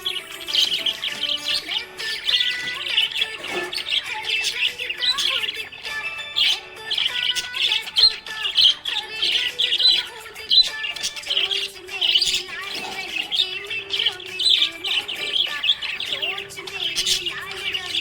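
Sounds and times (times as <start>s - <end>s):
budgerigars chirping and warbling: 0.0s - 18.0s.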